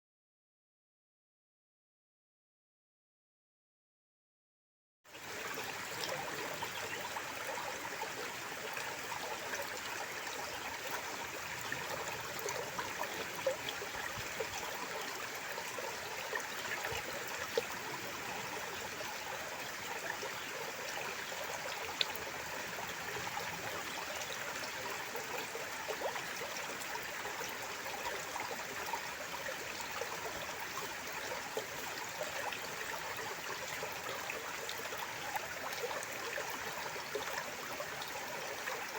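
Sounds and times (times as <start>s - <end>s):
stream water trickling: 5.1s - 38.9s.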